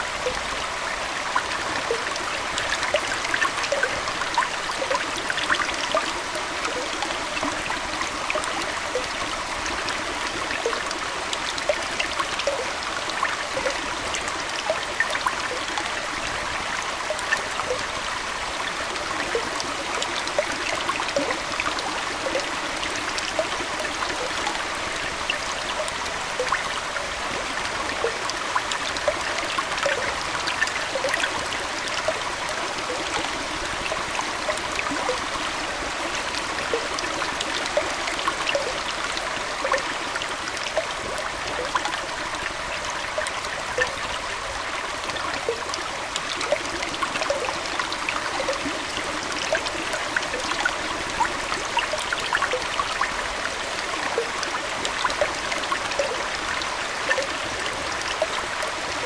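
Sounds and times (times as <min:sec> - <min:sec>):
aquarium water trickling: 0:00.0 - 0:59.0
small water splashes: 0:00.0 - 0:59.0.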